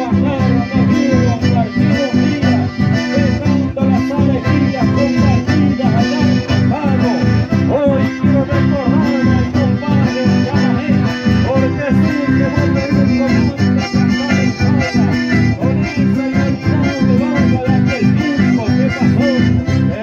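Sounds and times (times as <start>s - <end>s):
accordion melody: 0.0s - 20.0s
acoustic guitar rhythm: 0.0s - 20.0s.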